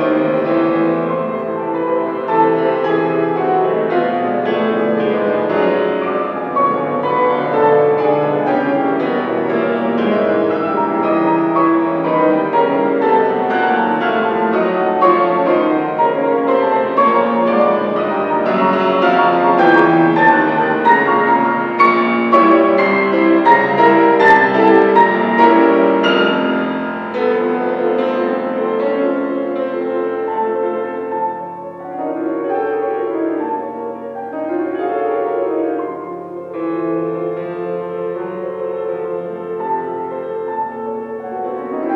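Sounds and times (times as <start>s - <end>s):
solo piano playing: 0.0s - 41.9s.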